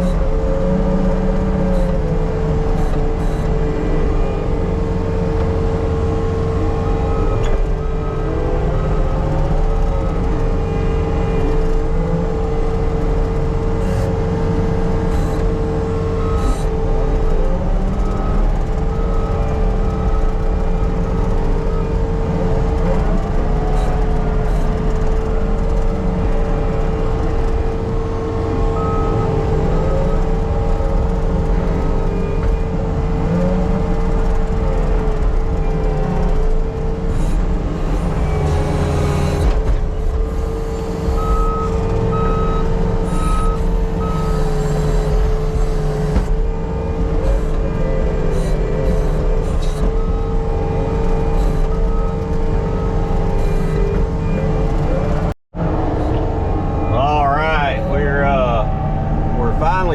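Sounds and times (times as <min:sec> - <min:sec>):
diesel engine under load: 0:00.0 - 0:59.9
steady high whine: 0:00.0 - 0:59.9.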